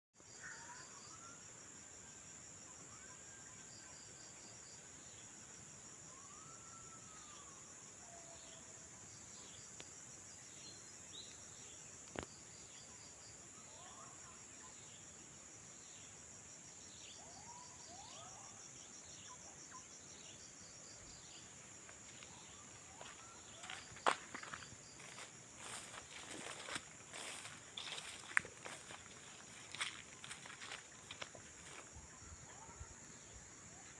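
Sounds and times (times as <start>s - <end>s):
insect chorus trilling: 0.2s - 33.9s.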